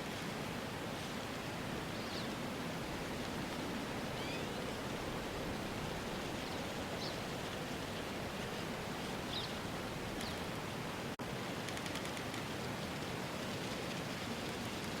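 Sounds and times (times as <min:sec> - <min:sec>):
hissing outdoor ambience: 0:00.0 - 0:15.0.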